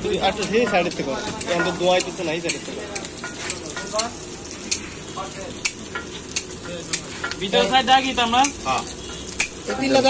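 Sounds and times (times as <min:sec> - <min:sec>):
food sizzling on a griddle: 0:00.0 - 0:10.0
metal spatulas clinking on griddle: 0:00.1 - 0:04.9, 0:05.6 - 0:09.8.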